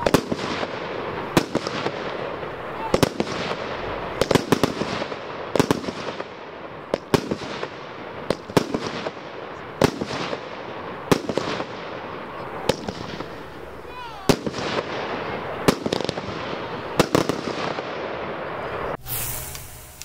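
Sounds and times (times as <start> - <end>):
firework bangs: 0.0 - 20.0
firework crackling hiss: 0.0 - 20.0.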